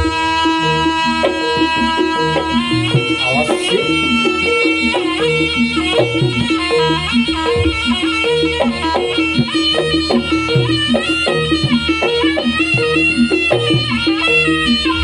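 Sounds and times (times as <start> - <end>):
drums: 0.0 - 15.0
pitched percussion notes: 0.0 - 15.0
reed melody: 0.0 - 15.0.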